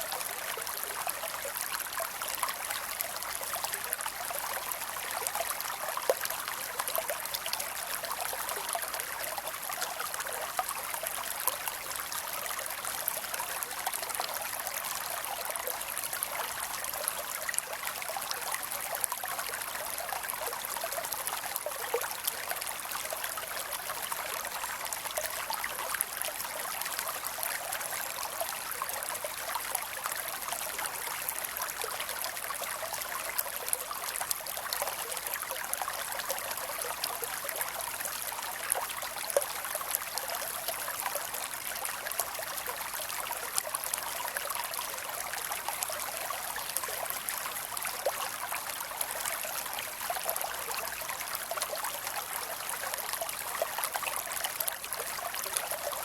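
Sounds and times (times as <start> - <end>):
creek babbling over stones: 0.0 - 56.0.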